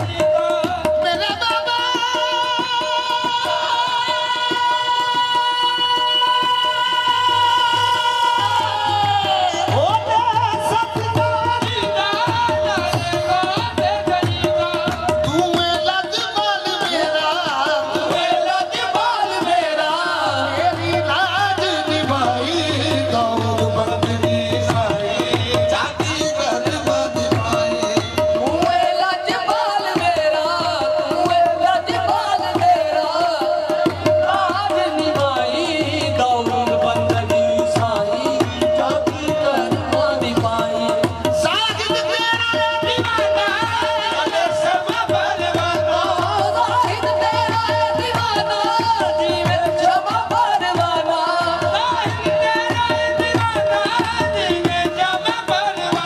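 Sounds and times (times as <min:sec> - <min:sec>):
hand drum rhythm: 0:00.0 - 0:56.0
harmonium drone: 0:00.0 - 0:56.0
voices singing: 0:00.0 - 0:56.0.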